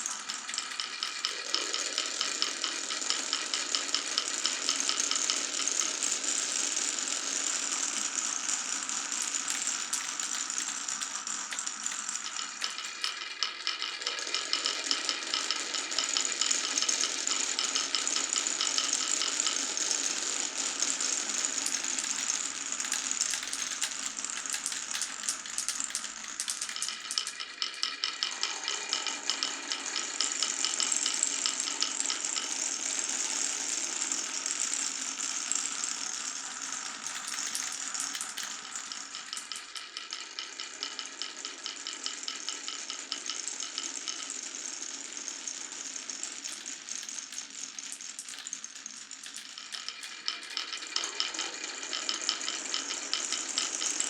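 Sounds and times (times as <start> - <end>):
marbles clattering on wooden run: 0.0 - 54.0.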